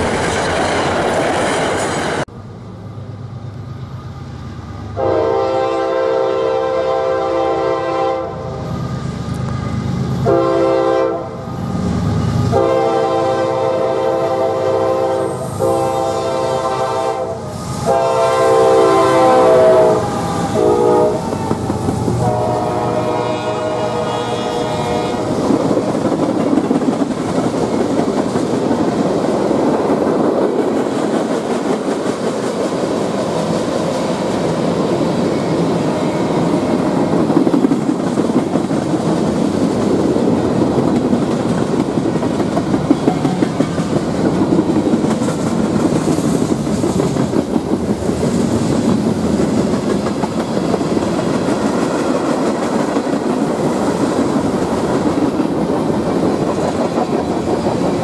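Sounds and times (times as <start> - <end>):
freight train wheels clacking on rails: 11.3 - 58.0.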